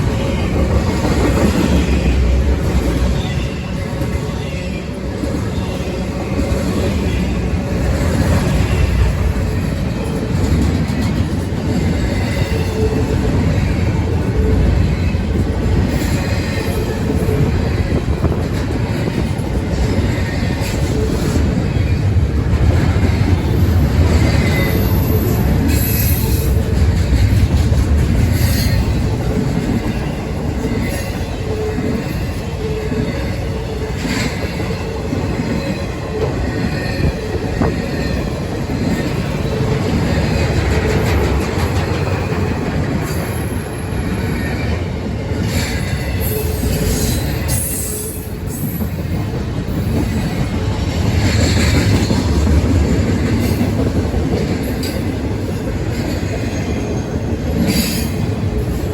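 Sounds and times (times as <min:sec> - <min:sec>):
freight train cars rumbling: 0:00.0 - 0:58.9.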